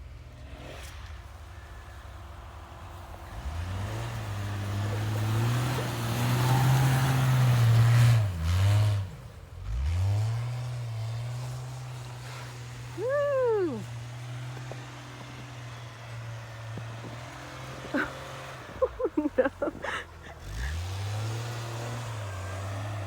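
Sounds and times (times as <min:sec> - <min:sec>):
car engine revving: 0:00.3 - 0:23.0
tyres hissing through snow: 0:00.7 - 0:08.2, 0:11.7 - 0:23.0.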